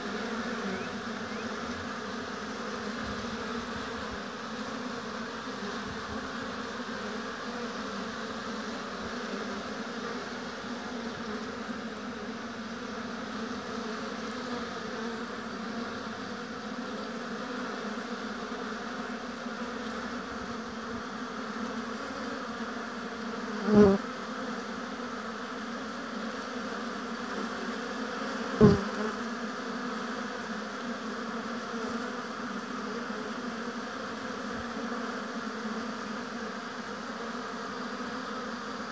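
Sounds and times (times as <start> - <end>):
honeybees buzzing: 0.0 - 38.9
single bee louder buzz: 0.0 - 38.9.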